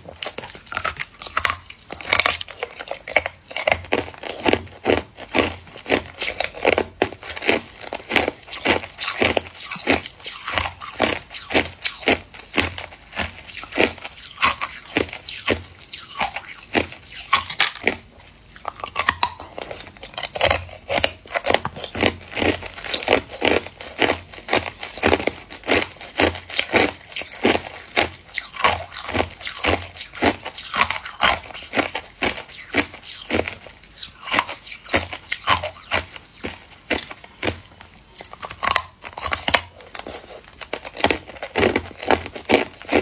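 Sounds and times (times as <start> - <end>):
ice being chewed: 0.0 - 43.0.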